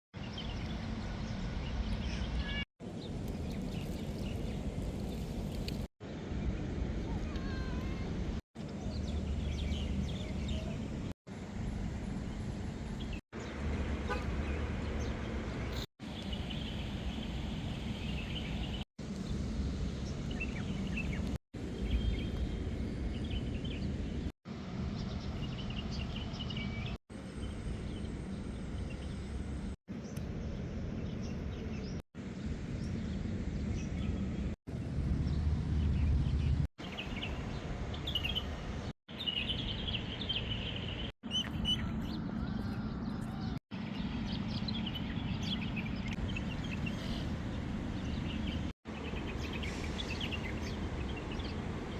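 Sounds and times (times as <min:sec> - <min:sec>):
distant traffic rumble: 0:00.2 - 0:51.9.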